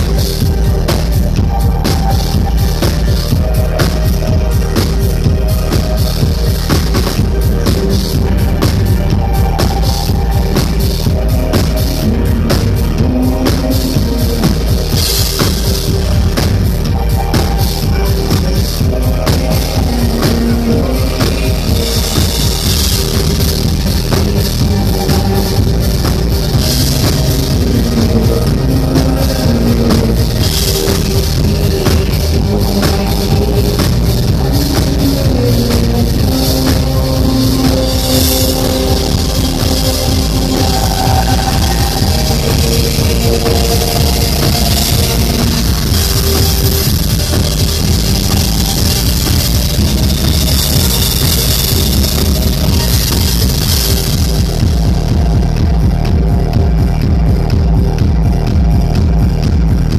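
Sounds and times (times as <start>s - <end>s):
live synth-pop band: 0.0s - 59.9s
steady drum beat: 0.0s - 59.9s.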